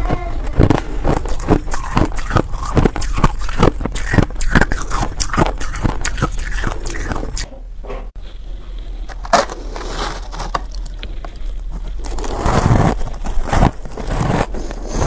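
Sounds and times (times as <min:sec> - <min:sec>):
crunchy chewing of ice: 0:00.5 - 0:07.5, 0:08.7 - 0:15.0.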